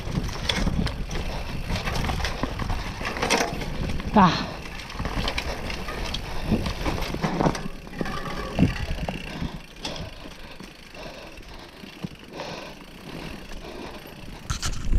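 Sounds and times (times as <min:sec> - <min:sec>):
bike rattling and knocking: 0:00.0 - 0:14.9
bike tyres rumbling on dirt: 0:00.0 - 0:14.9.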